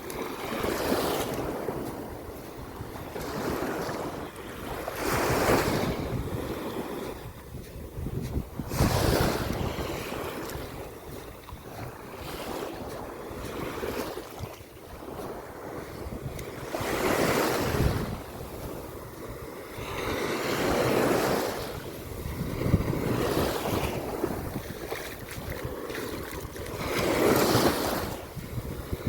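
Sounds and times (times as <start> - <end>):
sea waves breaking on shore: 0.0 - 29.0
wind: 0.0 - 29.0.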